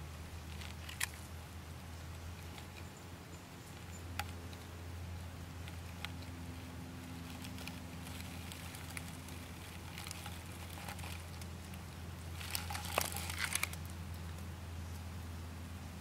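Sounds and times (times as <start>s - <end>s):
dry grass and twigs crackling: 0.0s - 15.0s
steady low hum: 0.0s - 16.0s.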